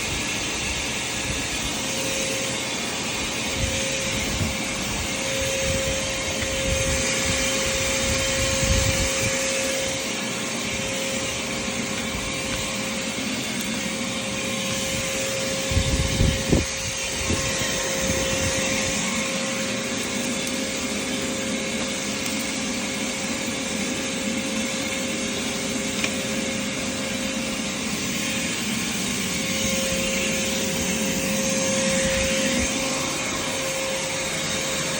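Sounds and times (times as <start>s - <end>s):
vacuum cleaner whining: 0.0s - 34.9s.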